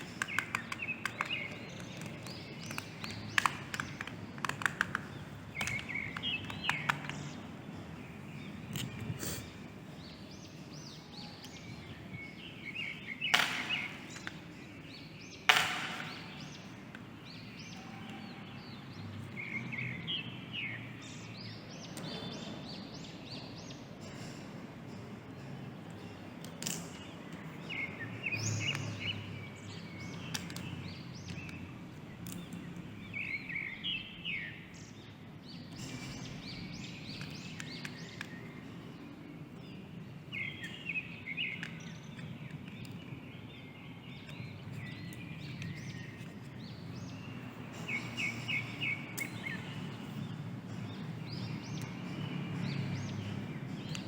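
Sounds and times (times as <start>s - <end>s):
birds chirping in trills: 0.0s - 54.0s
steady background noise: 0.0s - 54.0s.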